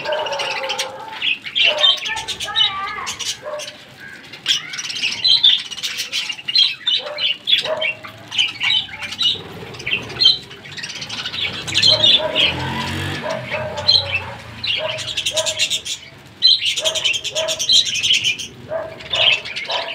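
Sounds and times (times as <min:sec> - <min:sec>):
budgerigars chattering and squawking: 0:00.0 - 0:19.9.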